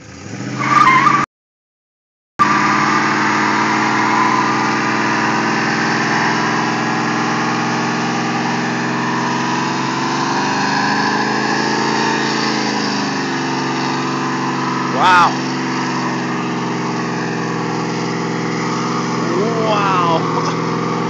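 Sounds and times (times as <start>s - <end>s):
car engine at high revs: 0.0s - 1.2s, 2.4s - 21.0s
tyres spinning on pavement: 2.4s - 21.0s.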